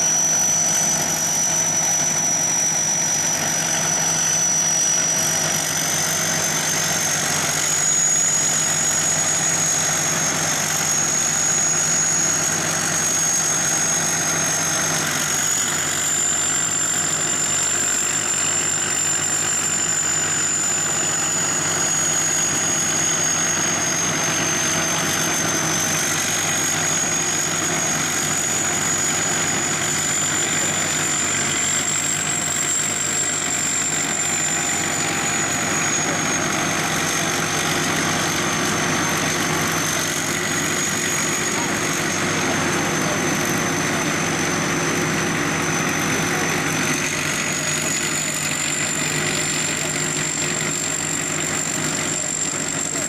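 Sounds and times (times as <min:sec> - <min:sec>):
combine harvester machinery whine: 0:00.0 - 0:53.0.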